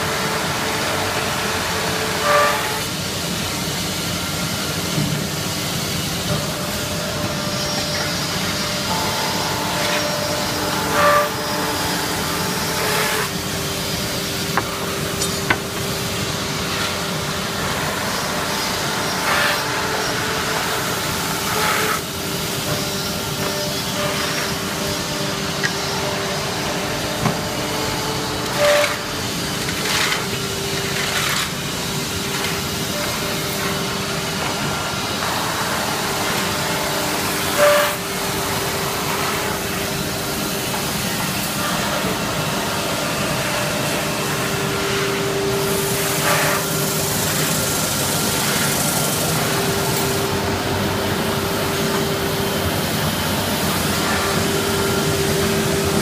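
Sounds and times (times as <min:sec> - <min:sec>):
sanding machines humming: 0:00.0 - 0:56.0.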